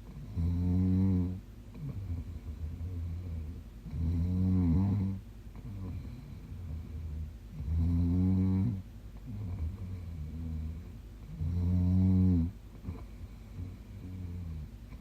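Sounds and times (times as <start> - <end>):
woman snoring: 0.1 - 6.2, 7.0 - 13.0.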